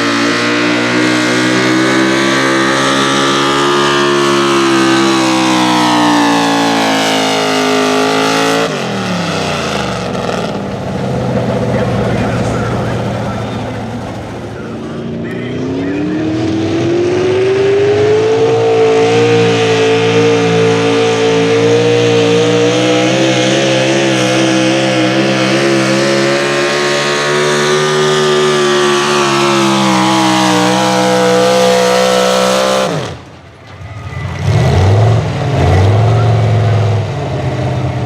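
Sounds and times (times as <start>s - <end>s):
truck engine running flat out: 0.0s - 38.0s.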